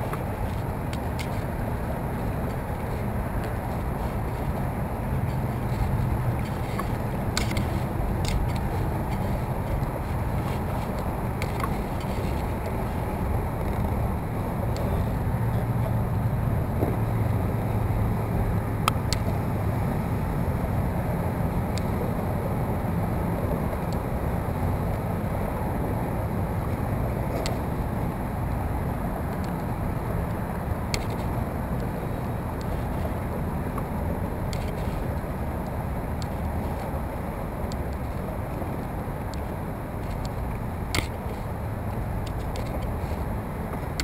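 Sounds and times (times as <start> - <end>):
wind buffeting the microphone: 0.0 - 44.0.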